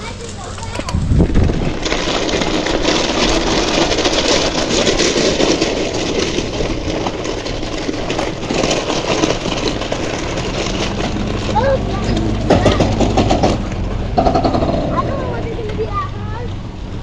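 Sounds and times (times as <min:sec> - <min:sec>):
bicycle riding along a trail: 0:00.0 - 0:17.0.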